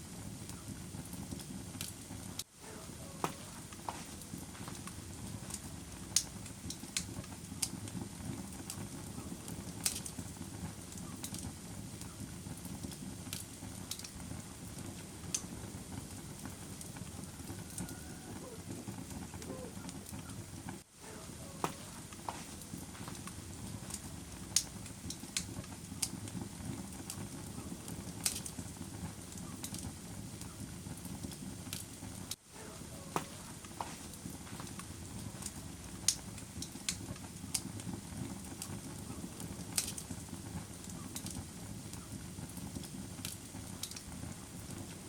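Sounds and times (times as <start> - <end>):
wood fire crackling in fireplace: 0.0 - 45.0.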